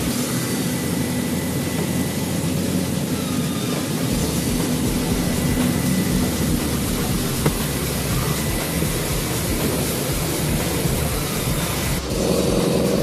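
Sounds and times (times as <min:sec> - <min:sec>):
motor vehicle engine drone: 0:00.0 - 0:13.0.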